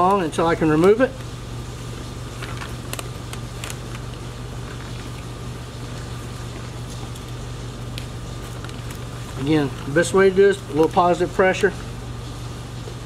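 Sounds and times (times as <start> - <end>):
low mechanical hum of appliance: 0.0 - 13.0.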